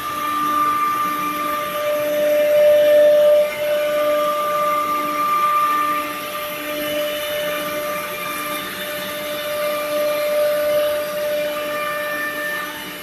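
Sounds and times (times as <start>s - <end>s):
wood router spindle whine: 0.0s - 13.0s.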